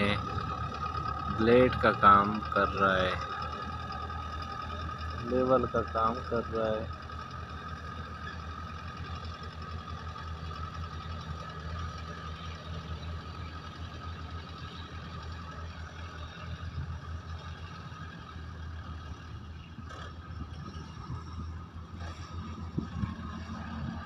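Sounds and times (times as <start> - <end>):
tractor diesel engine droning: 0.0 - 24.0.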